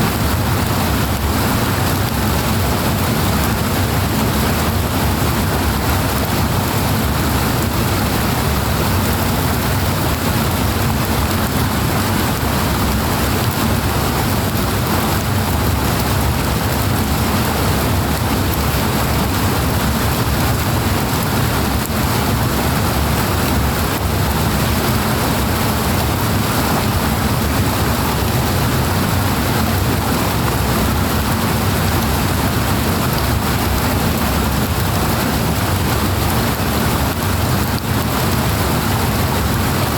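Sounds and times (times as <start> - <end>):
rush of flowing water: 0.0 - 39.9.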